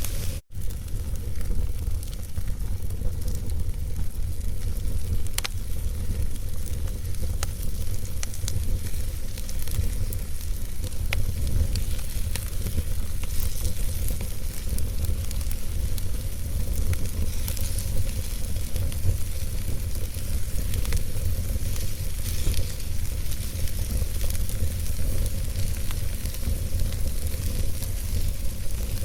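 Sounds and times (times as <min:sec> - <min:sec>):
fire rumble and hiss: 0:00.0 - 0:29.0
wood crackles and pops: 0:00.0 - 0:29.0.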